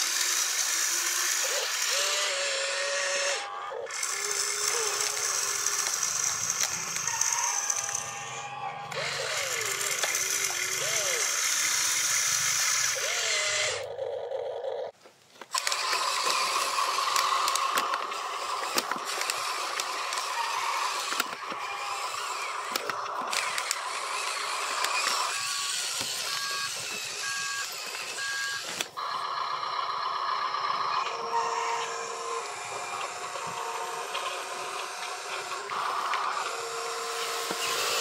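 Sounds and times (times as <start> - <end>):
small electric motors whining: 0.0 - 38.0.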